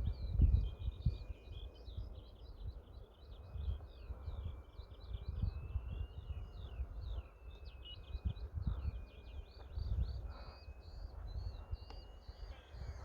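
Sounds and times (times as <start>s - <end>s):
birds chirping: 0.0s - 13.0s
wind rumbling on microphone: 0.0s - 13.0s.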